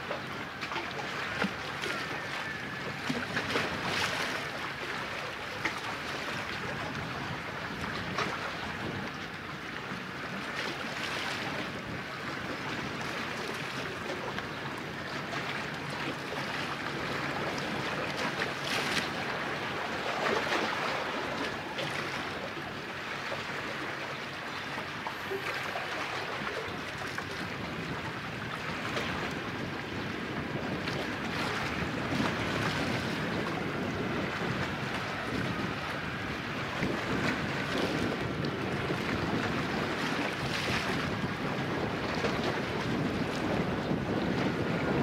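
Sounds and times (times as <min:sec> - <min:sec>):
sea waves breaking on shore: 0:00.0 - 0:45.0
wind on microphone: 0:00.0 - 0:45.0.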